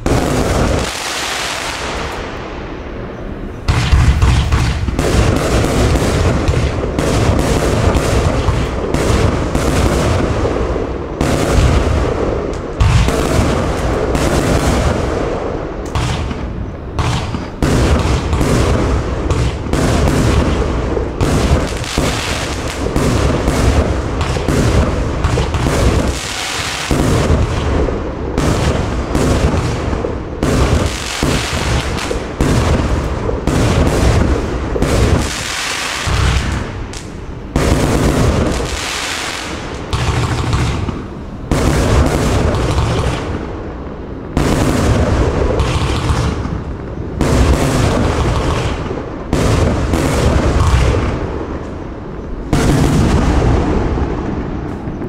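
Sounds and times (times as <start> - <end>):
firework bursts booming: 0.0 - 55.0.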